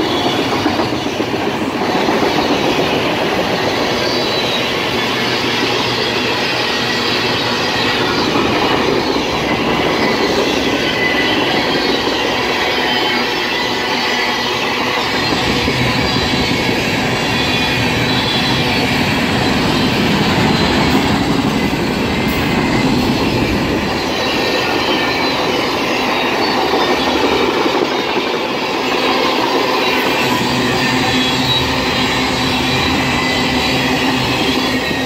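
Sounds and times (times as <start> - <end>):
high-pitched wheel squeal: 0.0 - 35.0
steel wheels rumbling on rail: 0.0 - 35.0.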